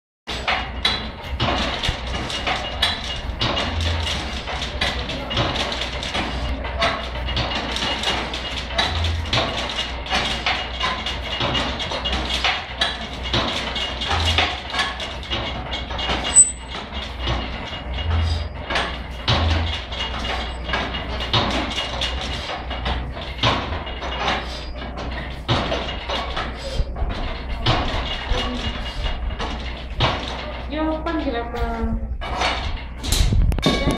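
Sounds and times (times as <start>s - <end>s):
metallic clicks and creaks: 0.3s - 33.9s.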